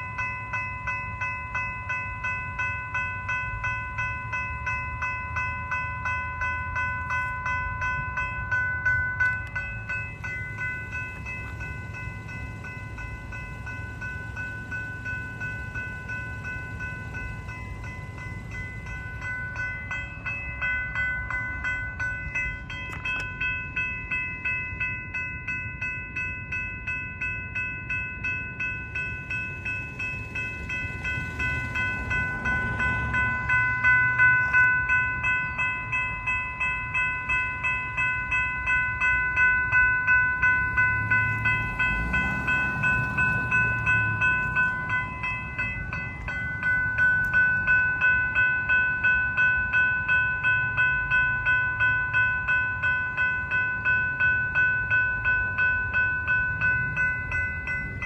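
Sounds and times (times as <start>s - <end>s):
crossing warning bells ringing: 0.0s - 58.0s.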